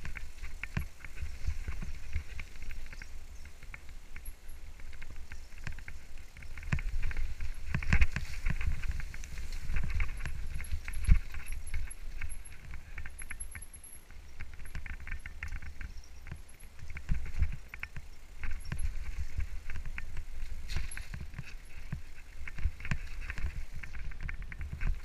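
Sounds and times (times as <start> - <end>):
bike rattling over rocks: 0.0 - 25.0
wind on microphone: 0.0 - 25.0.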